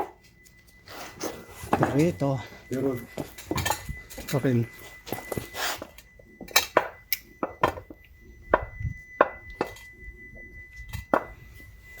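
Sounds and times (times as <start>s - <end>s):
faint steady high tone: 0.0s - 12.0s.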